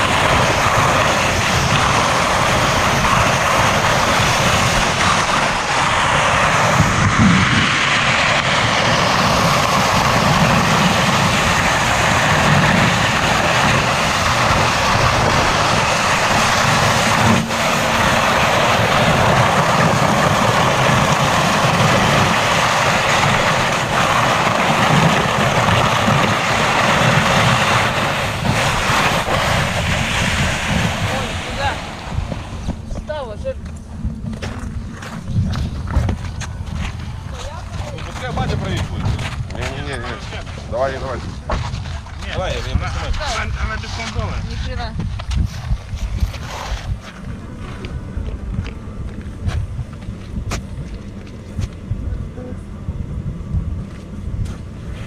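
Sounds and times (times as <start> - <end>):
broad rushing noise: 0.0 - 55.0
vehicle engine rumbling: 0.0 - 55.0.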